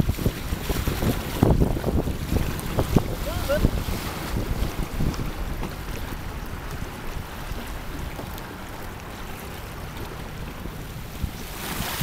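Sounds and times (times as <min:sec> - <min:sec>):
choppy water slapping hull: 0:00.0 - 0:12.0
wind buffeting microphone: 0:00.0 - 0:12.0.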